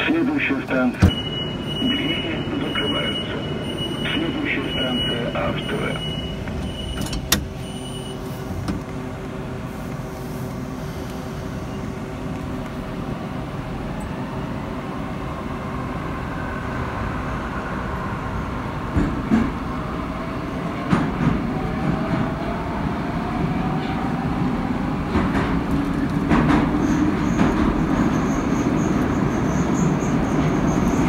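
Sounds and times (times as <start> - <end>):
train rumble and hum: 0.0 - 31.0.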